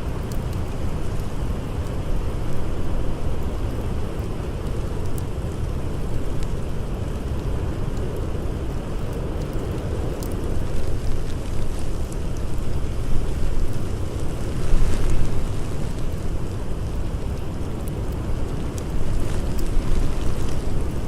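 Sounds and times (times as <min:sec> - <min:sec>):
blizzard wind rumbling: 0:00.0 - 0:21.0
wood fire crackling: 0:00.0 - 0:21.0.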